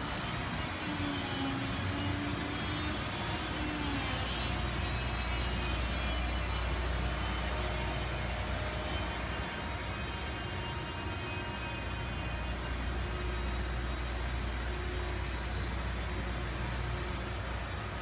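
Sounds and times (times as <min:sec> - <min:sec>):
continuous background noise: 0:00.0 - 0:18.0
low engine rumble of machinery: 0:00.0 - 0:18.0.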